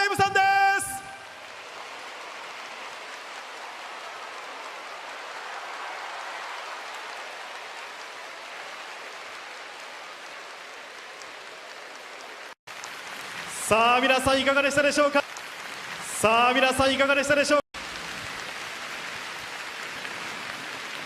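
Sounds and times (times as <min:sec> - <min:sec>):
studio audience applauding: 0:00.0 - 0:21.0.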